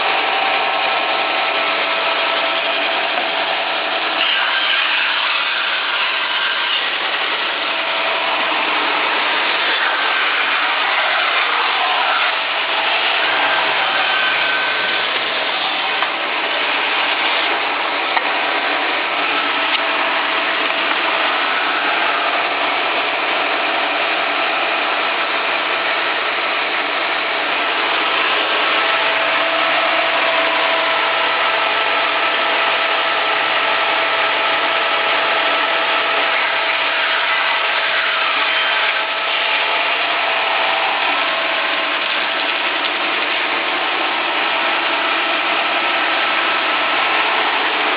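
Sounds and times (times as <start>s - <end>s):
band saw humming: 0.0s - 47.9s.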